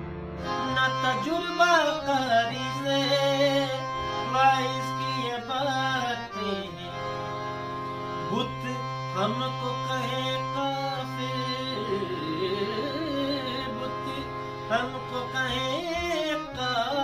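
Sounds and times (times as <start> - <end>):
harmonium playing chords: 0.0 - 17.0
man singing: 0.4 - 7.3, 8.2 - 17.0.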